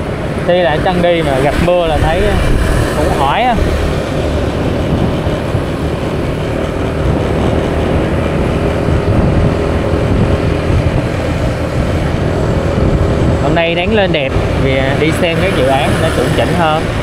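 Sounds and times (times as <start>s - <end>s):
vehicle road and engine noise: 0.0s - 17.0s
wind rumbling on microphone: 0.0s - 17.0s.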